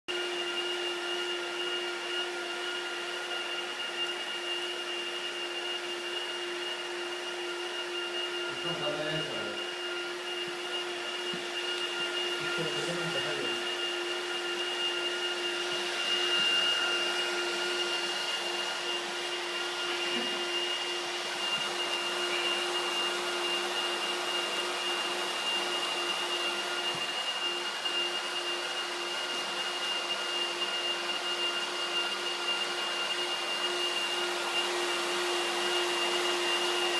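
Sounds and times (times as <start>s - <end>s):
hot-air welding gun whirring: 0.9s - 36.9s.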